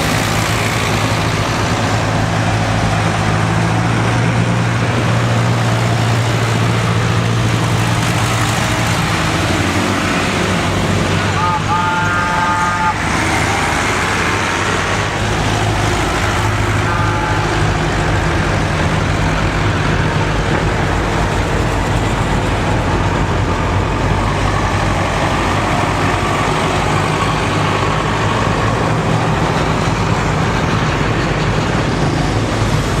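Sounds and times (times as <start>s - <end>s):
tractor engine droning: 0.0s - 33.0s.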